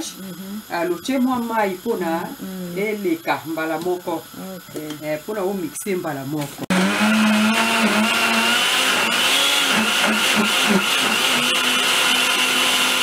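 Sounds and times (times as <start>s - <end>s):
blender running: 0.0s - 5.6s, 6.6s - 13.0s.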